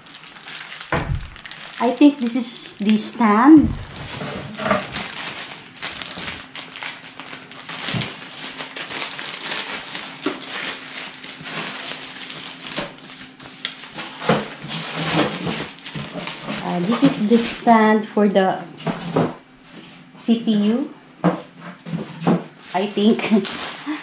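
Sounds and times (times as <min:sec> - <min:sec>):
plastic bags crinkling: 0:00.0 - 0:17.6, 0:21.9 - 0:24.0.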